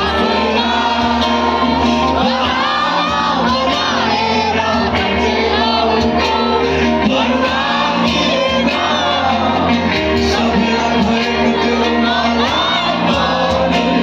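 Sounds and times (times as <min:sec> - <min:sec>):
crowd singing and shouting: 0:00.0 - 0:14.0
lead vocal singing: 0:00.0 - 0:14.0
live band music: 0:00.0 - 0:14.0.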